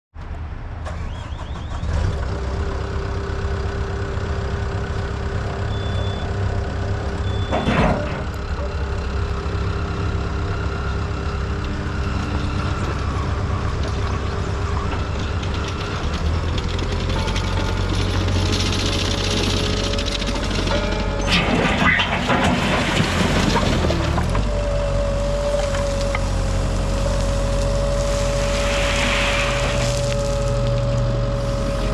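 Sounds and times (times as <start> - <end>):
diesel engine running: 0.9 - 31.9.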